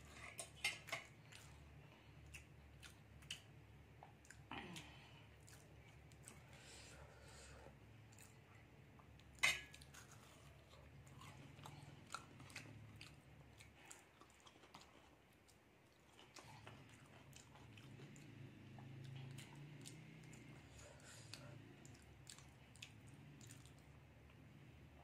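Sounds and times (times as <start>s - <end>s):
chewing and crunching: 0.0s - 24.4s.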